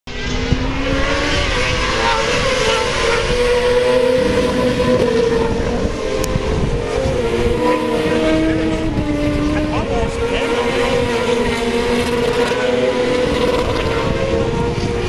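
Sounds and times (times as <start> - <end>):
racing motorcycle engines: 0.1 - 15.0.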